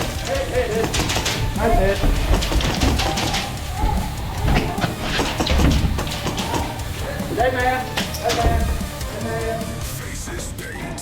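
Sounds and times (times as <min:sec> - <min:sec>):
music with heavy bass and drums: 0:00.0 - 0:11.0.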